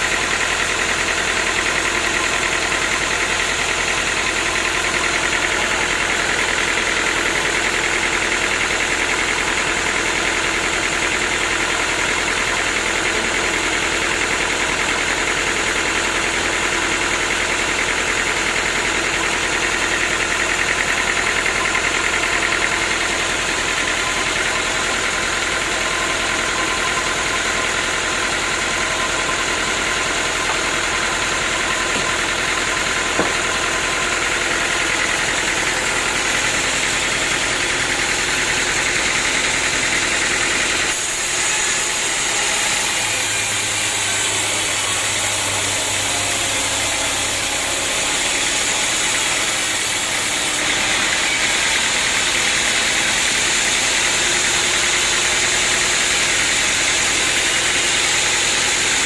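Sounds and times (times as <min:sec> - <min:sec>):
sawmill machinery drone: 0:00.0 - 0:59.0.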